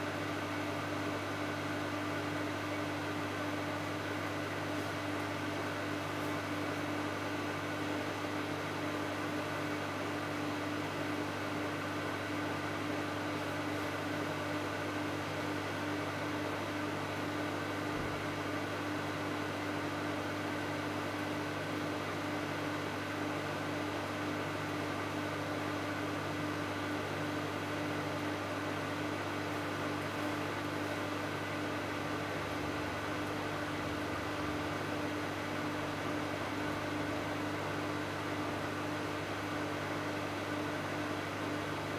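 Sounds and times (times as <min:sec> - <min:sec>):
microwave oven humming: 0:00.0 - 0:41.9.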